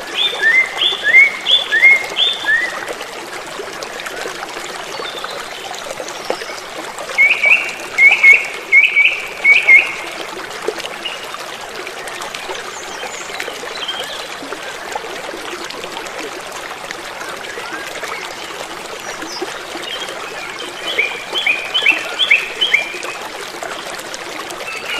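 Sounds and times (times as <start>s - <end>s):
creek water trickling: 0.0s - 24.9s.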